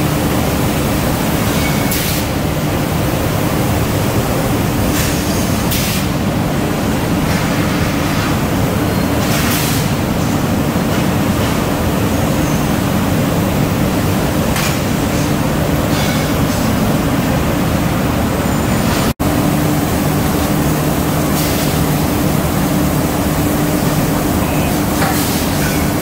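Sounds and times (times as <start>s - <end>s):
factory machinery drone: 0.0s - 26.0s.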